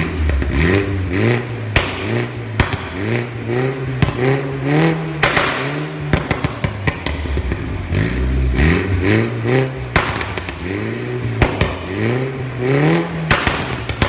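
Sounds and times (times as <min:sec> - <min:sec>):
exhaust pops and bangs: 0:00.0 - 0:07.9, 0:09.8 - 0:14.0
car engine revving: 0:00.0 - 0:14.0.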